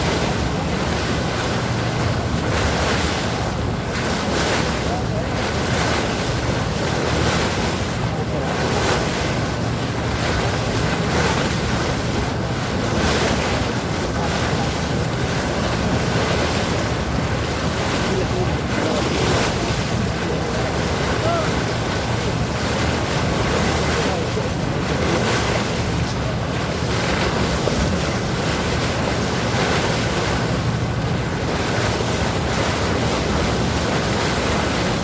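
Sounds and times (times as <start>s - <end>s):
sea water rushing and splashing: 0.0s - 35.0s
wind buffeting microphone: 0.0s - 35.0s.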